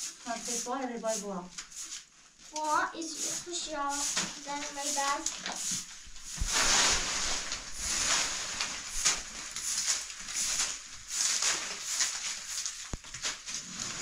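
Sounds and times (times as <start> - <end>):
brush swishing over a surface: 0.0 - 14.0.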